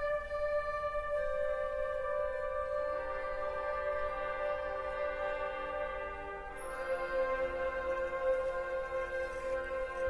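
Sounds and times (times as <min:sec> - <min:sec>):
wind band playing sustained chords: 0:00.0 - 0:10.0.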